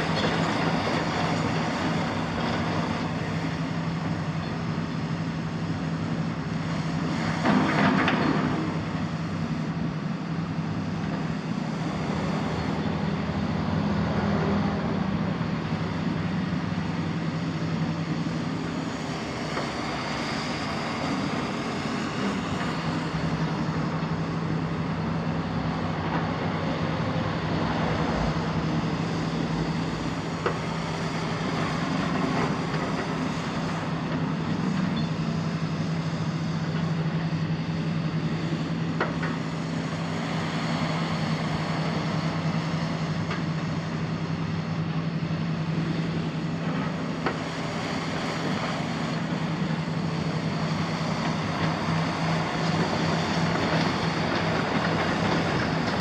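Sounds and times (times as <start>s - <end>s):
excavator diesel and hydraulics: 0.0s - 56.0s.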